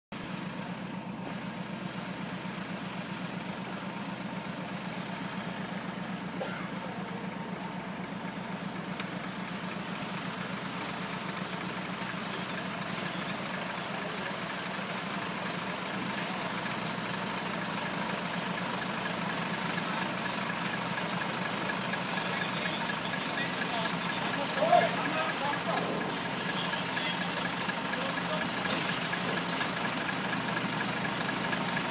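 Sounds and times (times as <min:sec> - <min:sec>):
truck diesel engine low throb: 0:00.1 - 0:31.9.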